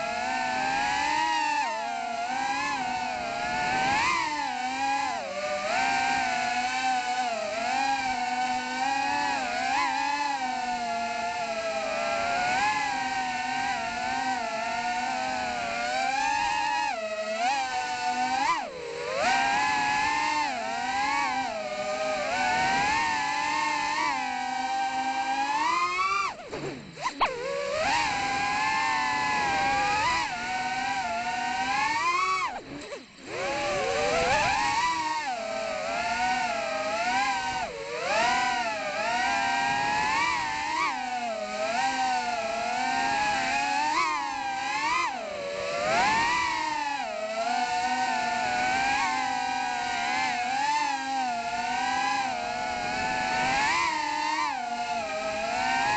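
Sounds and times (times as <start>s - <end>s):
quadcopter motors whining: 0.0s - 55.9s.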